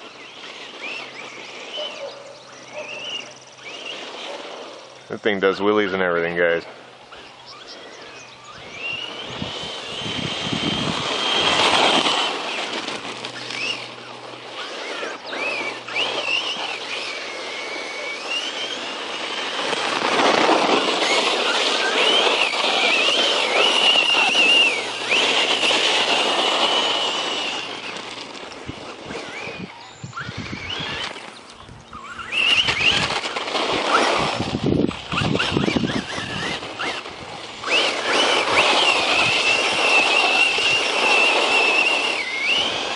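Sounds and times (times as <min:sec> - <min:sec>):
electric motor whining: 0:00.0 - 0:42.9
tyre and ground noise: 0:00.0 - 0:42.9.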